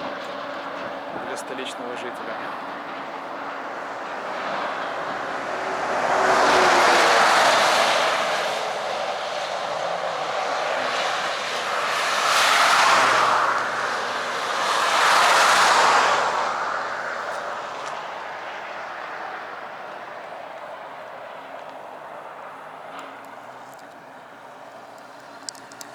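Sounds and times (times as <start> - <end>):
cars passing on road: 0.0 - 25.9.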